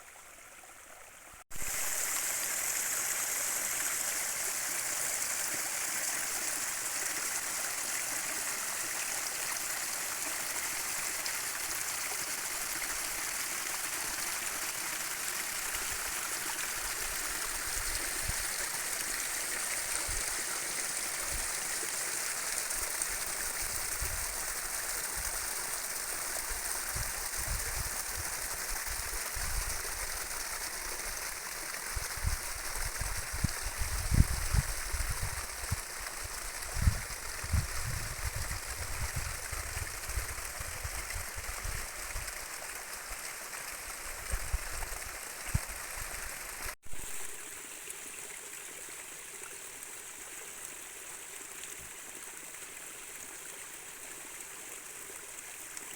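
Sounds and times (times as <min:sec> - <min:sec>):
stream of running water: 0:00.0 - 0:55.9.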